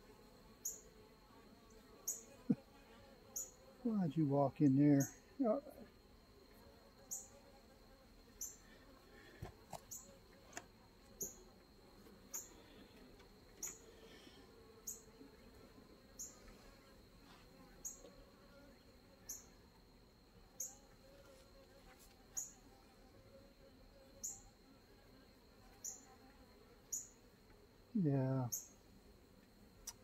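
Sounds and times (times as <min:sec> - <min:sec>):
honeybees humming: 0:00.0 - 0:30.0.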